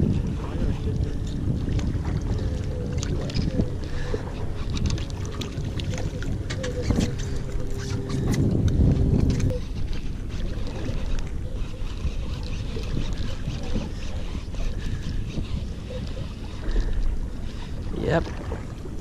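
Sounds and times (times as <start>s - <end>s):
motor hum with held tones: 0.0s - 19.0s
water noise: 0.0s - 19.0s
wind: 0.0s - 19.0s.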